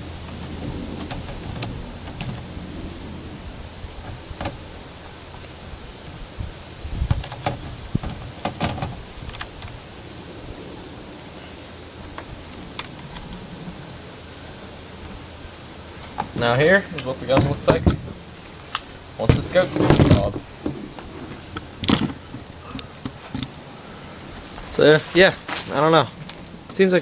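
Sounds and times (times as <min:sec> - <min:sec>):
low handling rumble: 0:00.0 - 0:27.0.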